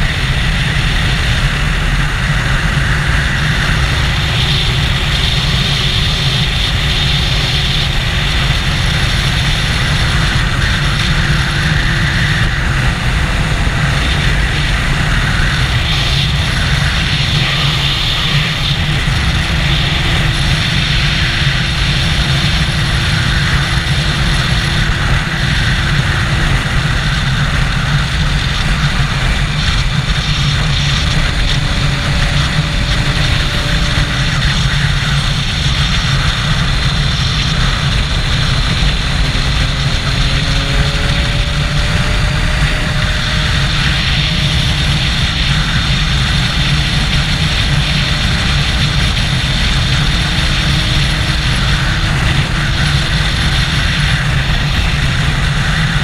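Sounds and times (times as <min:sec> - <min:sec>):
motorcycle engine cruising: 0:00.0 - 0:56.0
wind rush over microphone: 0:00.0 - 0:56.0.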